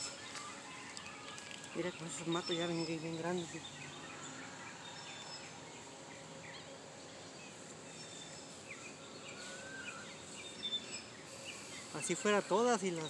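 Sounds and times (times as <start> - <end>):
bird chirps: 0.0 - 13.0
low background hiss: 0.0 - 13.0.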